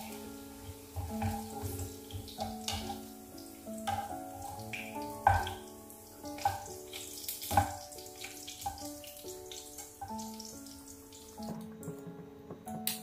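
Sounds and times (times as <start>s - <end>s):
oil sizzling in frying pan: 0.0s - 11.5s
gentle instrumental music: 0.0s - 13.0s.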